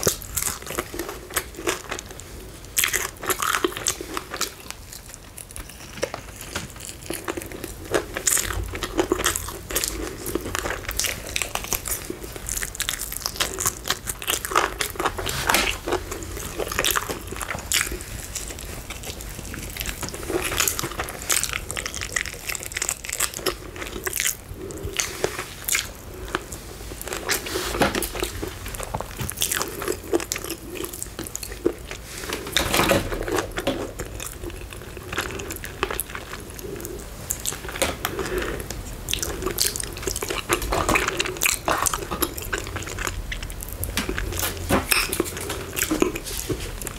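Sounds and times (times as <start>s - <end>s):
crunchy chewing of fried chicken: 0.0s - 46.9s.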